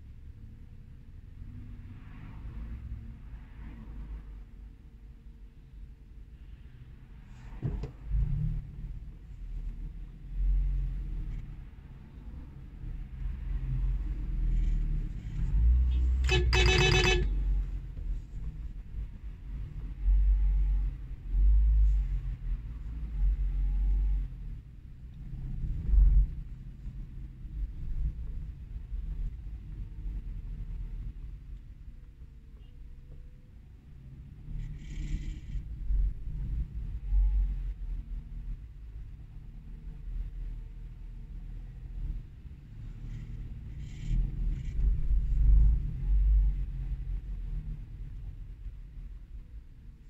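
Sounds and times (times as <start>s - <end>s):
car rumbling in traffic: 0.0s - 50.0s.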